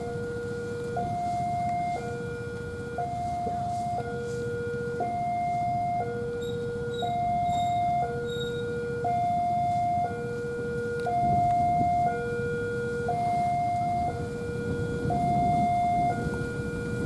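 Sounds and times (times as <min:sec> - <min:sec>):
level crossing alarm two tones: 0:00.0 - 0:10.4, 0:11.0 - 0:17.0.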